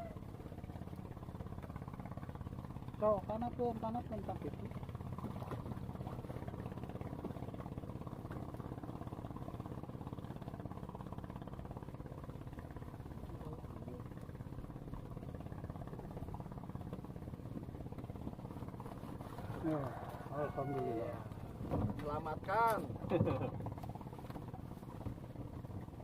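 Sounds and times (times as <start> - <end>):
small engine droning: 0.0 - 26.0.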